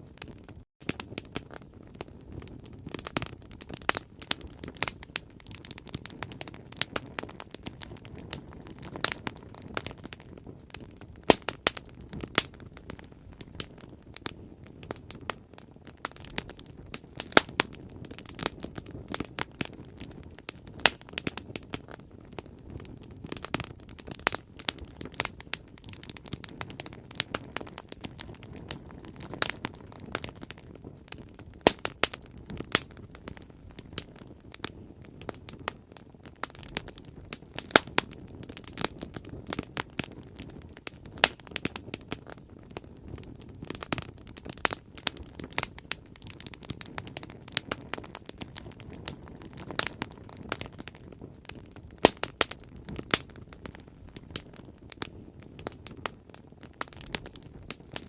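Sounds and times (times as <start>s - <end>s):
bonfire crackling and popping: 0.0s - 58.0s.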